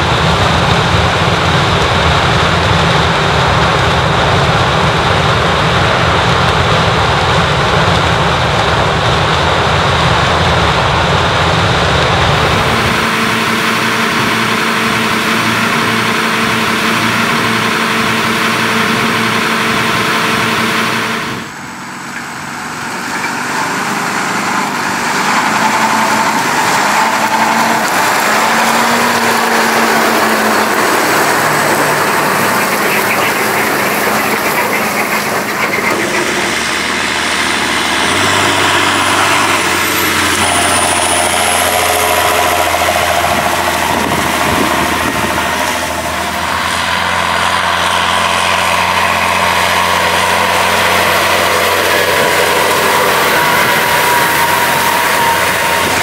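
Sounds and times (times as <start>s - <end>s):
diesel farm machinery running: 0.0s - 56.0s.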